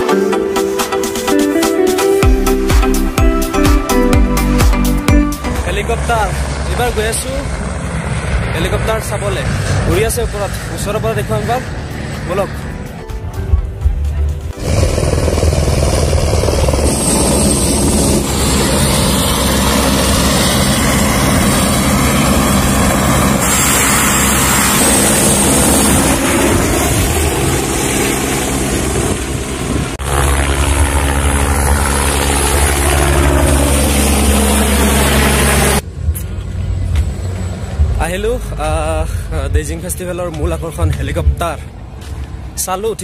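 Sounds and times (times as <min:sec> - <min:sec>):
helicopter flying overhead: 0:05.2 - 0:42.6.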